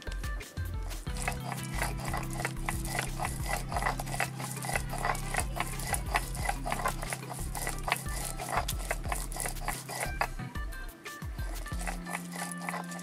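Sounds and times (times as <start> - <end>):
stone grinding gritty scrapes: 1.0 - 10.4, 11.4 - 13.0.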